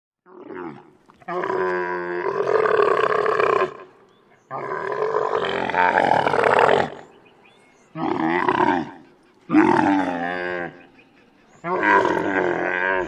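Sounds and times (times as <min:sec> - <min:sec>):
camel calling: 0:00.4 - 0:13.0.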